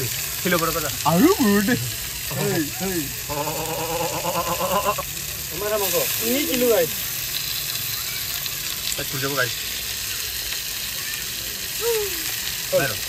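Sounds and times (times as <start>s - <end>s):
faint voices: 0.0s - 13.0s
steady hiss: 0.0s - 13.0s.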